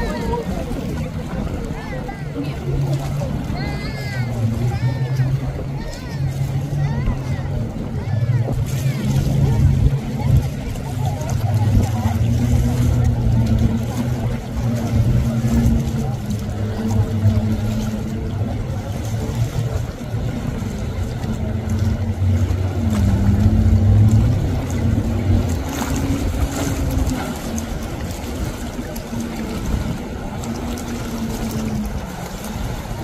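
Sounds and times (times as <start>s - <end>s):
jet ski engine running: 0.0s - 33.0s.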